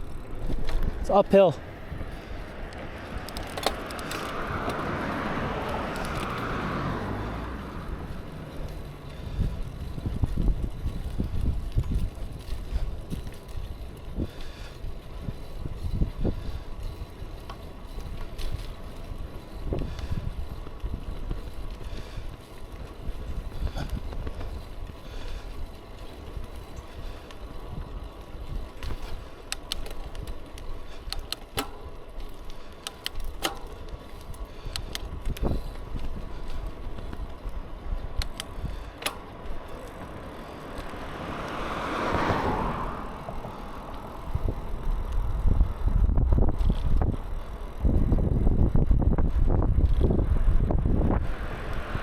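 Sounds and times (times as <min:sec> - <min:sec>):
bike clicks and rattles: 0:00.0 - 0:52.0
road noise: 0:00.0 - 0:52.0
wind rumbling on microphone: 0:00.0 - 0:52.0.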